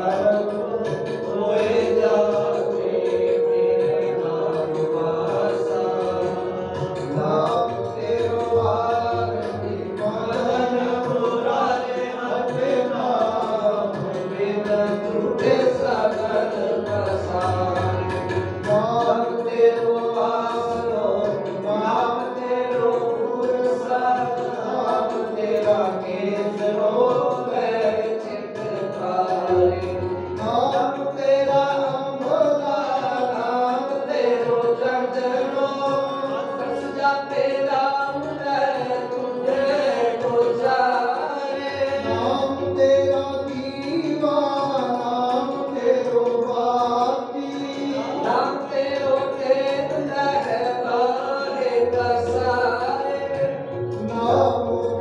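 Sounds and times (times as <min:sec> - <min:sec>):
tabla: 0:00.0 - 0:55.0.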